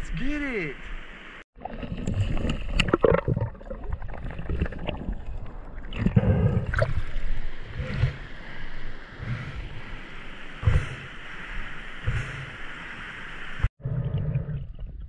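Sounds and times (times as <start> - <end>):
water sloshing and gurgling: 1.5 - 15.0.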